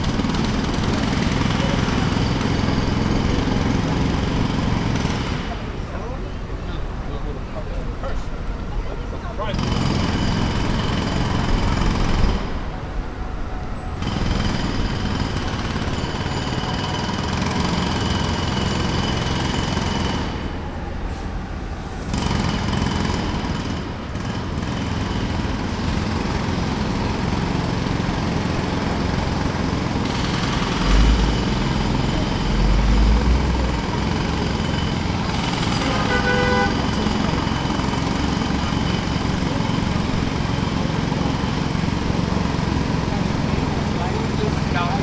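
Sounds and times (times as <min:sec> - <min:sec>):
jackhammer breaking pavement: 0:00.0 - 0:06.2, 0:09.4 - 0:12.7, 0:14.0 - 0:20.7, 0:22.1 - 0:45.0
engine hum: 0:00.0 - 0:45.0.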